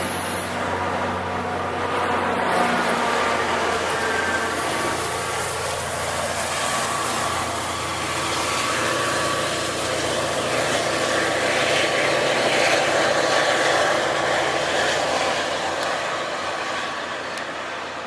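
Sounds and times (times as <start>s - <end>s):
diesel locomotive engine drone: 0.0s - 18.0s
train wheels on rails: 0.0s - 18.0s.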